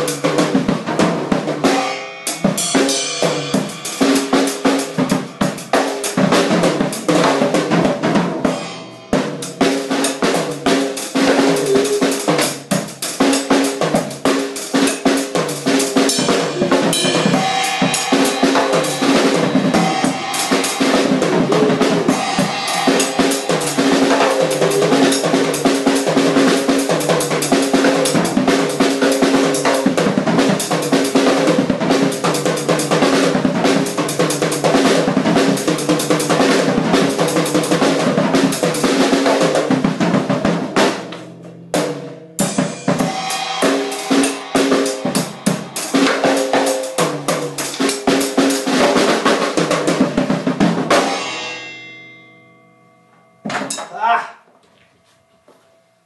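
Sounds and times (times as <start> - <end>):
recorded music track: 0.0 - 48.7, 49.4 - 56.0
drum kit playing fast: 0.0 - 52.0.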